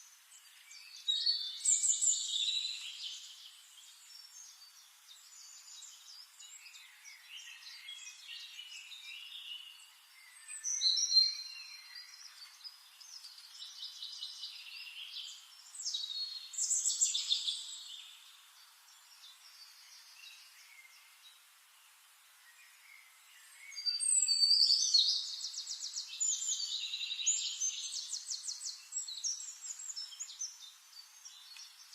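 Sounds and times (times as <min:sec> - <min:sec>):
songbirds chirping and singing: 0:00.0 - 0:31.9.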